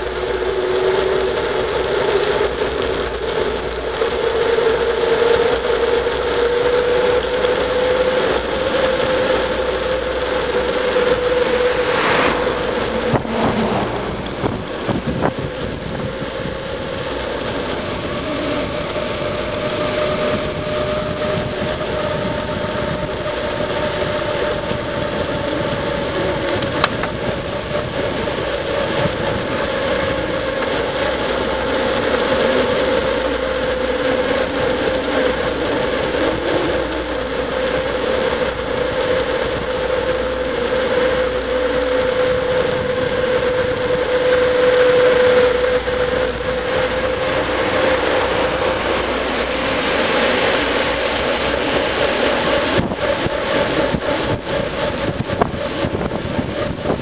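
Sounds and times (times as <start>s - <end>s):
bicycle hum: 0.0s - 57.0s
tyre and wind rush: 8.8s - 57.0s.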